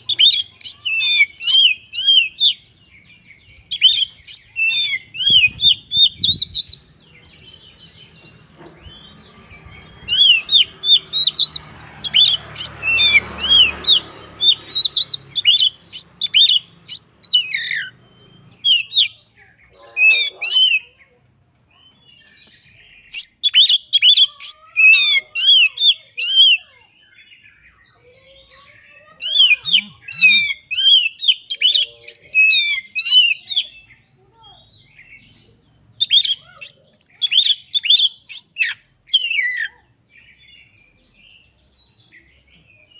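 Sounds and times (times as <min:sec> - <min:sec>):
bird singing whistled notes: 0:00.0 - 0:20.9, 0:21.8 - 0:42.9.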